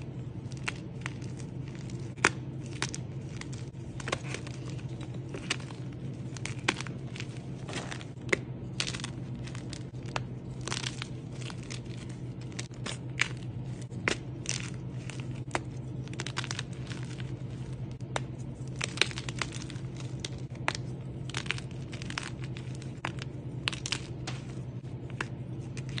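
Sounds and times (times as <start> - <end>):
chalk crunching and crackling: 0.0 - 26.0
steady low hum: 0.0 - 26.0.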